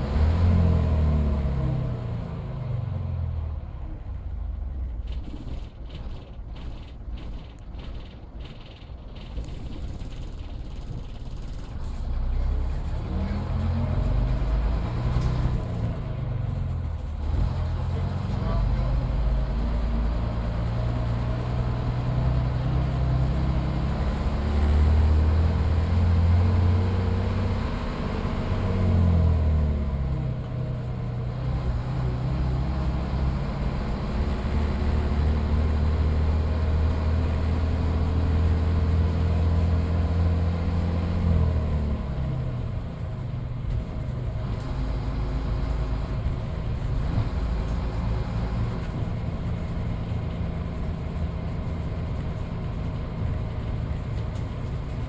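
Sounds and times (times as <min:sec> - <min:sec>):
bus diesel engine under load: 0:00.0 - 0:55.0.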